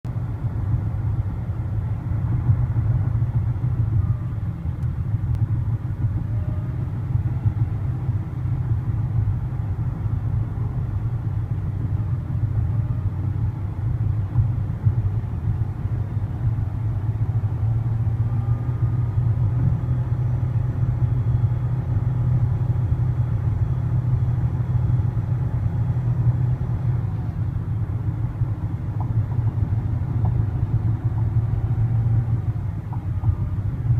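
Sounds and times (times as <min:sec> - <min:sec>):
road and wind rumble: 0:00.0 - 0:33.9.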